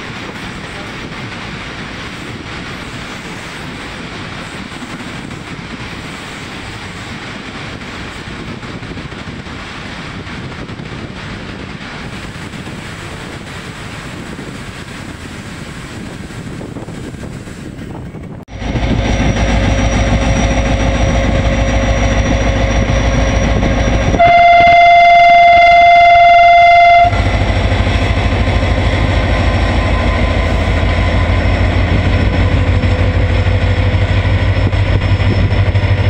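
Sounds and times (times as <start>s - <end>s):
train wheels rushing on rail: 0.0s - 36.0s
wind on microphone: 0.0s - 36.0s.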